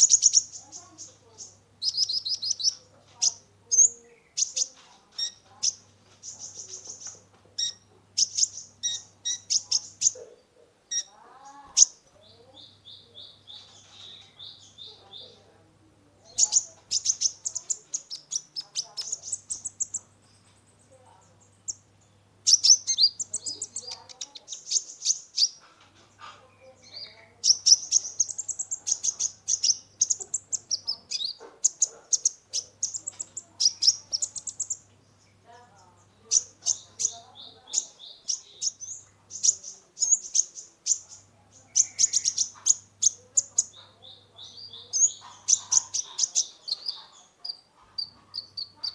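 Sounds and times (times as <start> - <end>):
buzzy bird trill: 0.0 - 10.3, 10.9 - 15.4, 16.3 - 25.6, 26.7 - 34.8, 36.0 - 48.9
sunbird singing rapid chirps: 0.0 - 25.6, 26.4 - 48.9.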